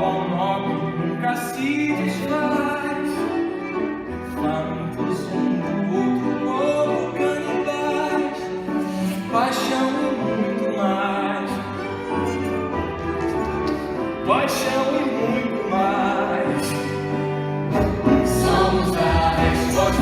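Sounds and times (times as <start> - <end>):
song with bowed strings: 0.0 - 20.0.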